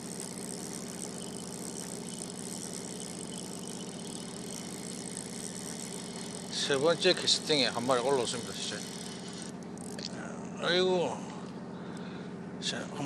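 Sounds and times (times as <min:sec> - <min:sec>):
boat engine idling: 0:00.0 - 0:12.4.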